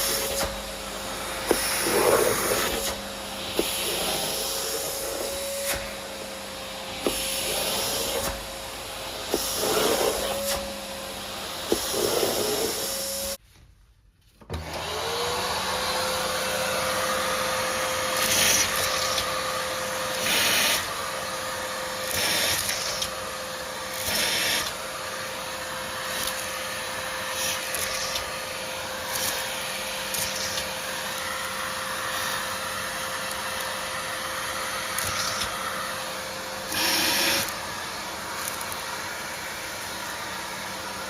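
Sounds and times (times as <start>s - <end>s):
vacuum cleaner running: 0.0s - 13.4s, 14.4s - 41.0s.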